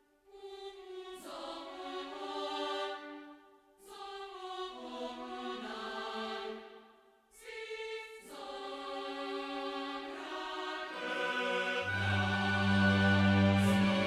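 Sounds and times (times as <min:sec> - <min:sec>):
music with choir-like voices: 0:00.0 - 0:14.0.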